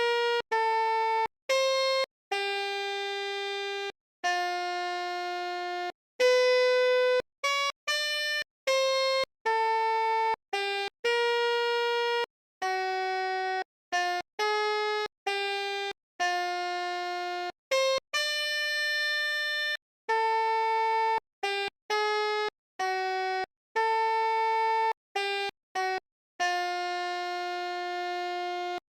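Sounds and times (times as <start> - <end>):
keyboard melodica notes: 0.0 - 28.8.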